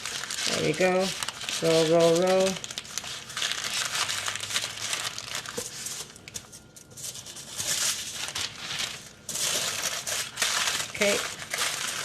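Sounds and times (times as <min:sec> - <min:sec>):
paper and foil crinkling: 0:00.0 - 0:12.0.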